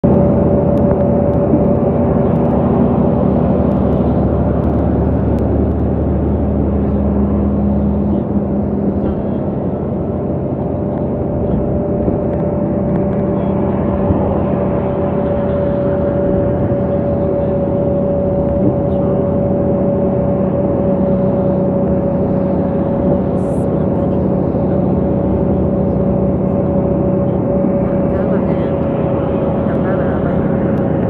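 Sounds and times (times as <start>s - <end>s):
bus road and engine noise: 0.0s - 31.0s.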